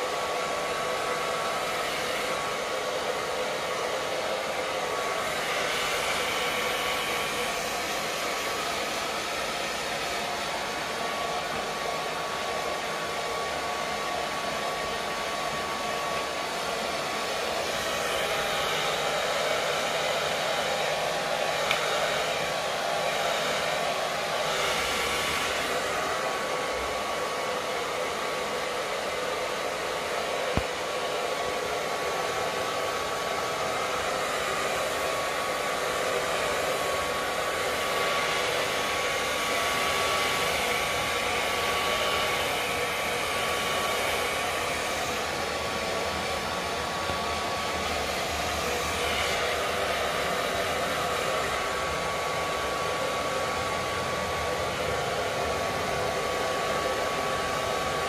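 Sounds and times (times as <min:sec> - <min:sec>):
hair dryer blowing with whine: 0:00.0 - 0:58.0.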